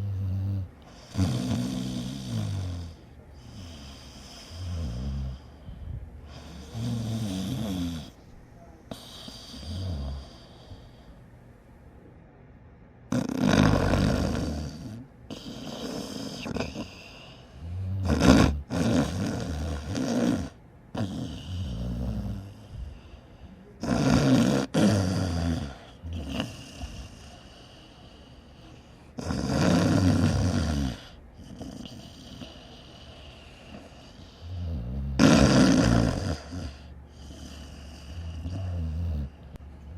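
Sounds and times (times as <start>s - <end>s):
person snoring: 0.0s - 5.6s, 6.3s - 8.2s, 8.9s - 10.8s, 13.1s - 22.8s, 23.8s - 28.0s, 29.1s - 39.4s
quiet breathing: 0.0s - 11.8s, 13.7s - 23.9s, 24.9s - 35.1s, 36.1s - 39.9s.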